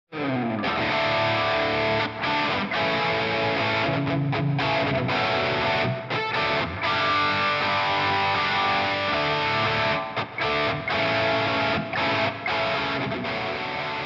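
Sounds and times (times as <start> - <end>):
distorted electric guitar chords: 0.1 - 14.0.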